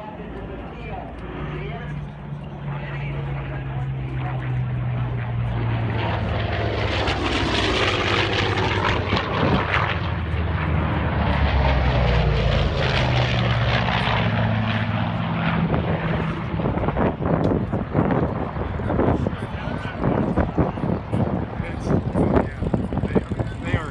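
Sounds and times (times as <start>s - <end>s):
propeller plane flying past: 0.0s - 23.9s.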